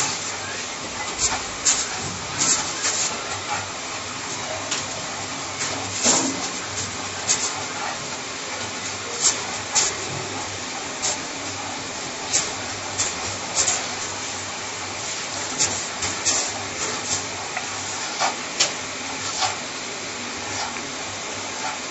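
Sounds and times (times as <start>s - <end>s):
steady hiss: 0.0s - 21.9s.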